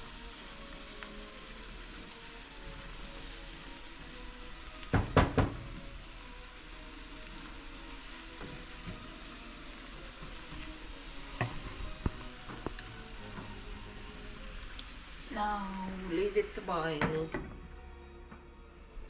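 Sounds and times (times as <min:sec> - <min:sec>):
squash sizzling in oil: 0:00.0 - 0:18.9.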